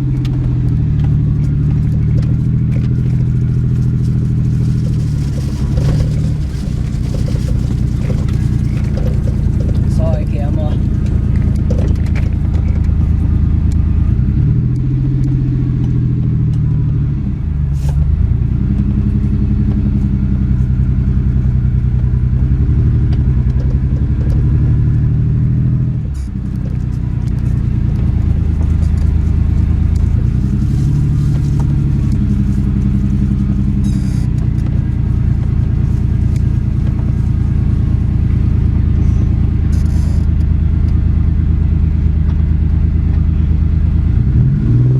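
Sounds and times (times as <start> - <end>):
car engine running rough: 0.0 - 44.9.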